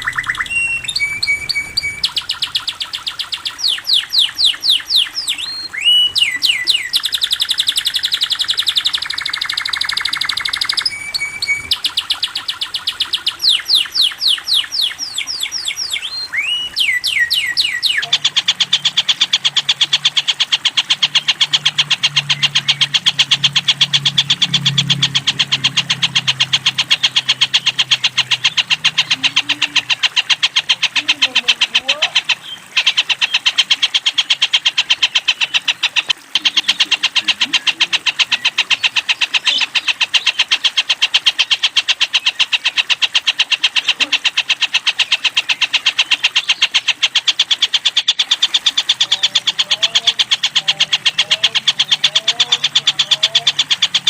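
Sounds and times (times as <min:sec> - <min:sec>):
canary trilling: 0:00.0 - 0:54.0.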